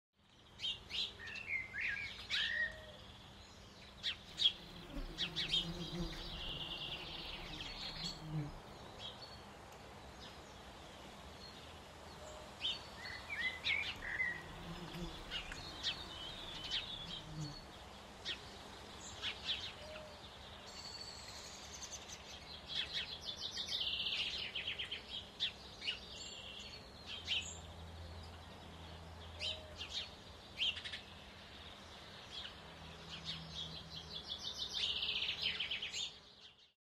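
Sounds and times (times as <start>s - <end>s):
songbirds chirping and singing: 0.3s - 36.7s.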